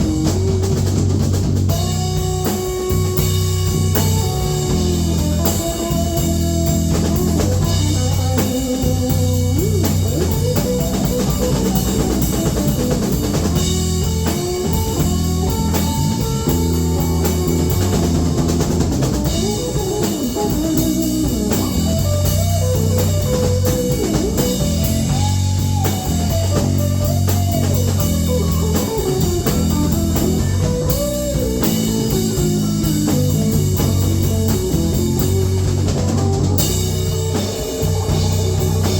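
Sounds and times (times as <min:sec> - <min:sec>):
blues band playing: 0:00.0 - 0:38.9
lead guitar bending notes: 0:00.0 - 0:38.9.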